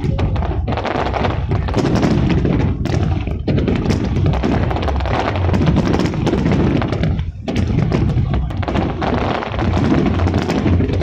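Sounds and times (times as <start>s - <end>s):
deep rumble: 0.0s - 11.0s
fireworks popping and crackling: 0.0s - 11.0s.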